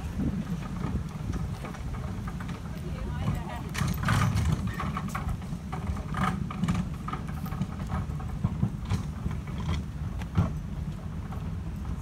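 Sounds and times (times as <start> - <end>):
wheelie bin rolling on tarmac: 0.0 - 12.0.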